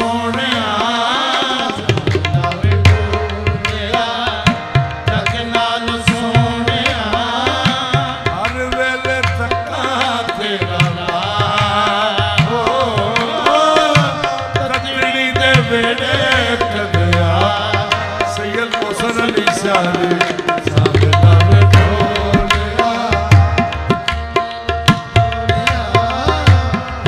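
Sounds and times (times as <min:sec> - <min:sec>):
harmonium melody and drone: 0:00.0 - 0:27.0
tabla drumming: 0:00.0 - 0:27.0.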